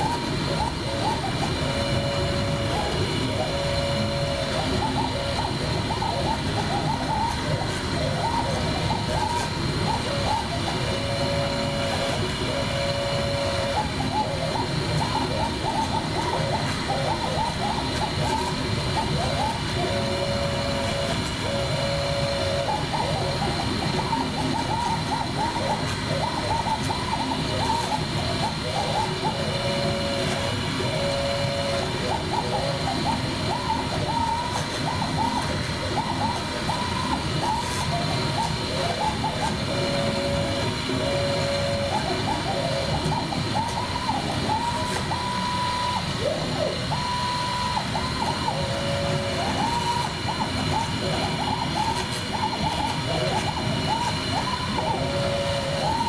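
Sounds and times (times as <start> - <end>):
axis motors shifting pitch: 0.0 - 56.0
router spindle whine: 0.0 - 56.0.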